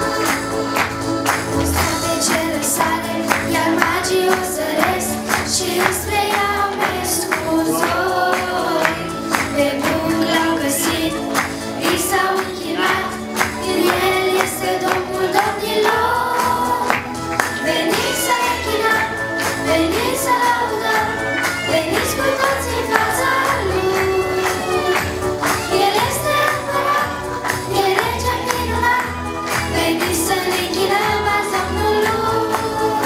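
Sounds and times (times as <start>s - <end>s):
children's choir singing: 0.0s - 33.0s
instrumental accompaniment with beat: 0.0s - 33.0s.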